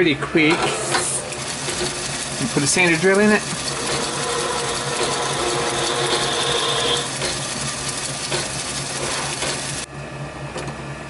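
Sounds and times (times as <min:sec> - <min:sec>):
lathe running: 0:00.4 - 0:09.9
lathe drilling high whine: 0:00.8 - 0:09.9.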